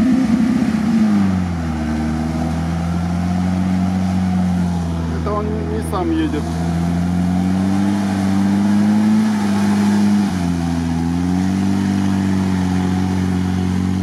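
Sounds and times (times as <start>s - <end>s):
engine running hard: 0.0s - 14.0s.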